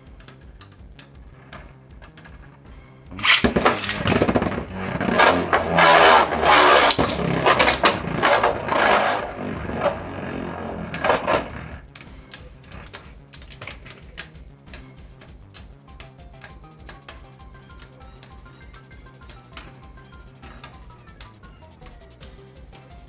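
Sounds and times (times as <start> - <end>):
spinning tops clattering and clicking: 3.2 - 22.9.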